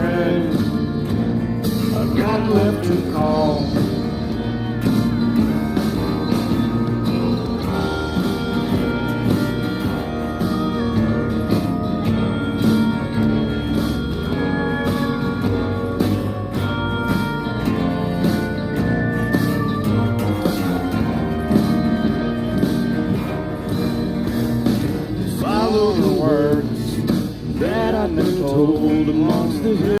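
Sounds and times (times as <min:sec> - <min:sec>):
bass guitar: 0:00.0 - 0:30.0
country-rock guitar: 0:00.0 - 0:30.0
steady drum beat: 0:00.0 - 0:30.0.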